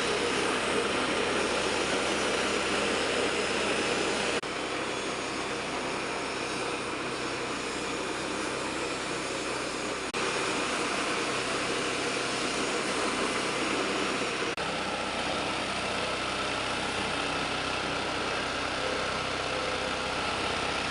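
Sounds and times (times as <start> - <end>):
grinding machine running: 0.0 - 20.9.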